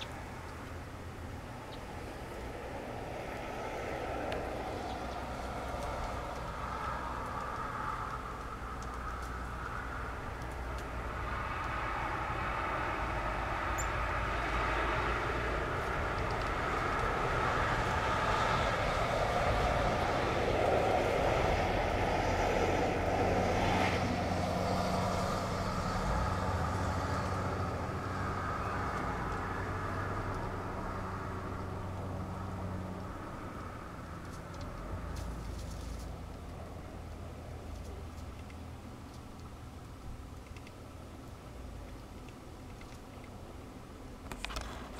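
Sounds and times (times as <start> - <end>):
vehicle traffic rumble: 0.0 - 44.9.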